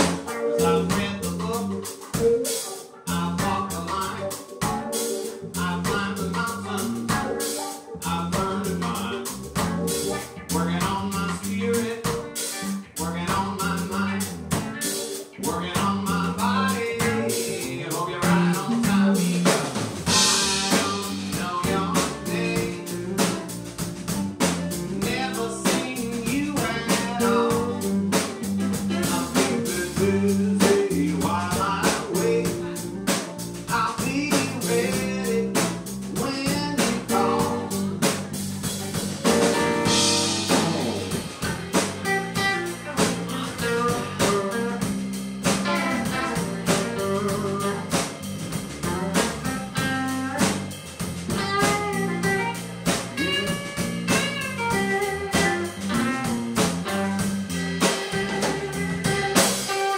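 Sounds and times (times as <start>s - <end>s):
person singing: 0.0s - 38.3s, 39.2s - 48.1s, 51.3s - 59.9s
live band playing: 0.0s - 59.9s.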